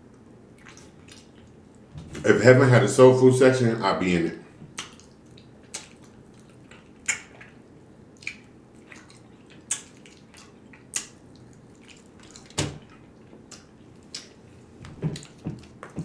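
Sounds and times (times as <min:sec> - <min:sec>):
mouth chewing with wet smacks: 0:00.1 - 0:01.9, 0:04.5 - 0:16.0.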